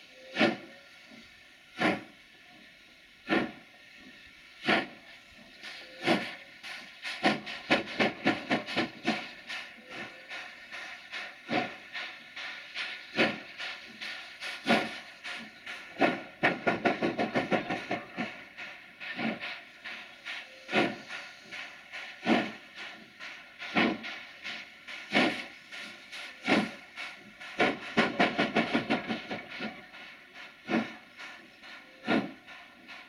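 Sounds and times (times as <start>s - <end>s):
steady hiss of steam: 0.0s - 33.0s
steam locomotive exhaust chuffs: 0.0s - 33.0s.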